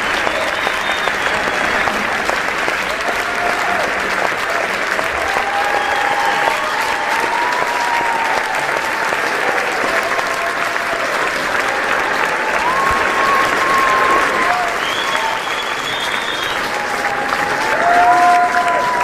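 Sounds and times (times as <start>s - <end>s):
audience clapping and cheering: 0.0s - 19.0s.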